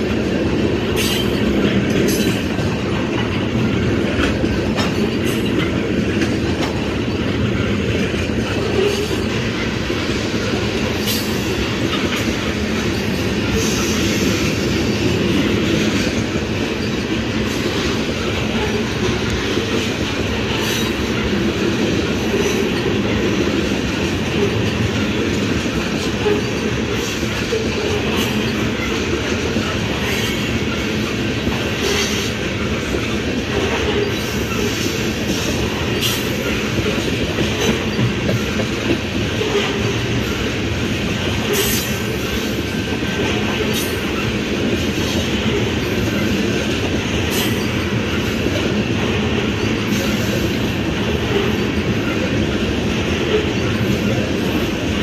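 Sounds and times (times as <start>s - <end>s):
train wheels rumbling on rails: 0.0s - 55.0s
wheels clicking over rail joints: 0.0s - 55.0s.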